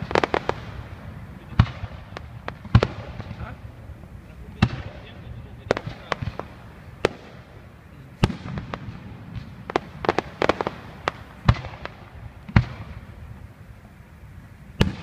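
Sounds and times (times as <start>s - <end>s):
fireworks bangs: 0.0s - 15.0s
fireworks crackling reports: 0.0s - 15.0s.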